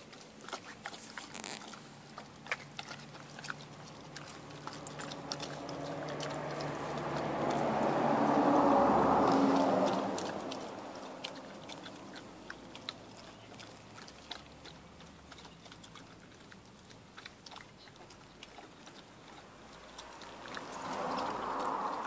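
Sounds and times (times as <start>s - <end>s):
dogs chewing food: 0.0s - 22.0s.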